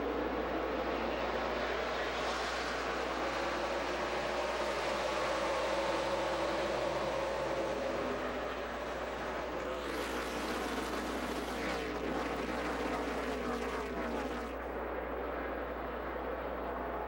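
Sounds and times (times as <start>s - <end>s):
race car engines at full throttle: 0.0s - 14.6s.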